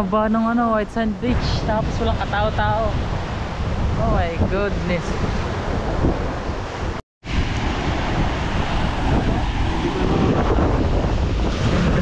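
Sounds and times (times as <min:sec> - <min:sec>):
wind buffeting microphone: 0:00.0 - 0:12.0
sea waves on shore: 0:00.6 - 0:12.0.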